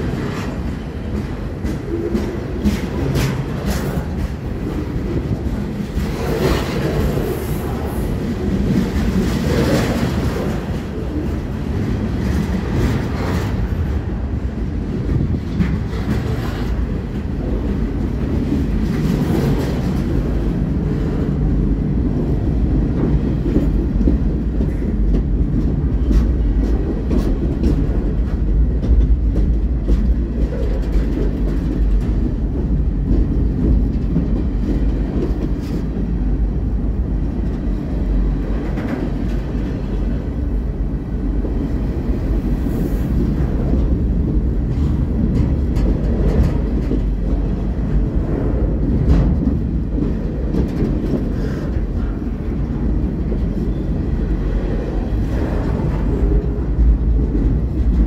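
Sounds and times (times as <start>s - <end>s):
clicks and clunks from train cars: 0.0s - 58.0s
freight train wheels rumbling on rail: 0.0s - 58.0s.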